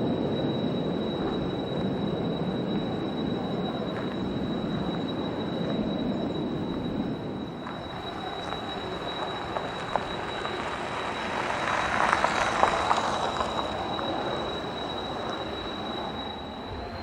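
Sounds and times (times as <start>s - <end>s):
jet engine whine and rush: 0.0s - 17.0s.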